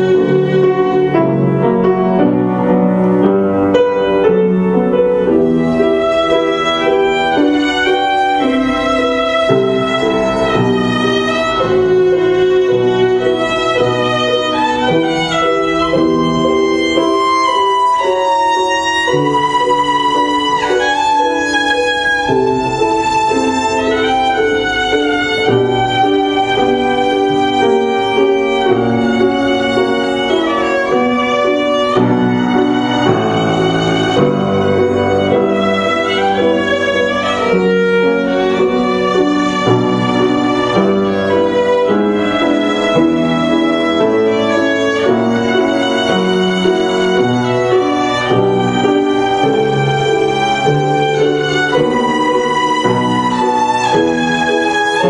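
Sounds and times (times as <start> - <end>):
piano accompaniment: 0.0 - 55.0
violin melody: 0.0 - 55.0.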